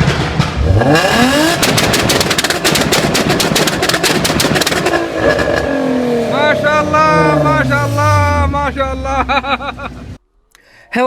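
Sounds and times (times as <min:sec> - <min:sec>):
car engine revving: 0:00.0 - 0:10.2
exhaust pops and bangs: 0:00.0 - 0:10.2.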